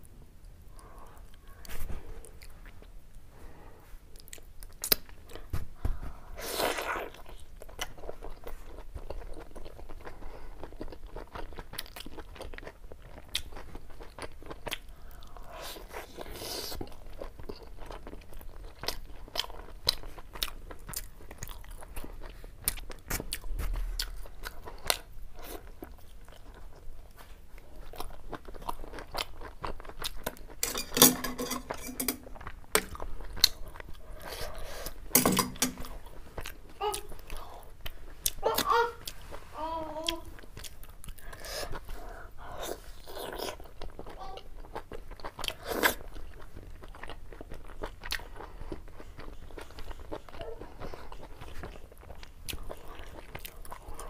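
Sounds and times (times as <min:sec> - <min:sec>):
person chewing food: 0:00.7 - 0:54.0.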